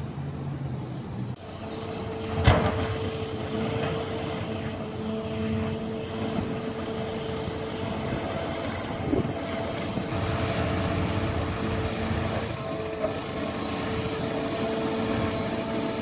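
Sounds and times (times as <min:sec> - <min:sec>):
excavator diesel engine humming: 0:00.0 - 0:16.0
bucket working in water: 0:01.4 - 0:16.0.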